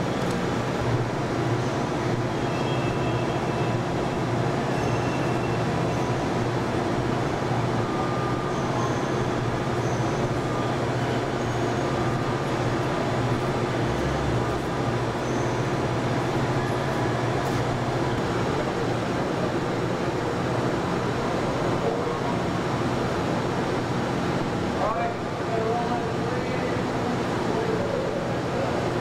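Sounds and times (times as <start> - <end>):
low hum and hiss of hall: 0.0 - 29.0.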